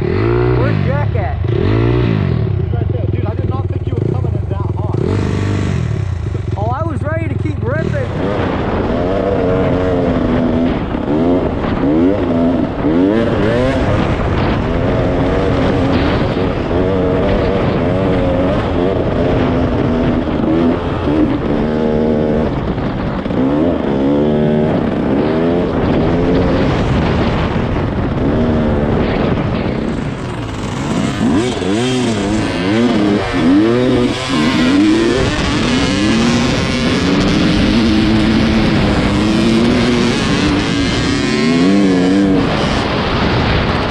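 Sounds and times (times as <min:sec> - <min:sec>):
dirt bike engine revving: 0:00.0 - 0:43.9
wind rushing: 0:00.0 - 0:43.9.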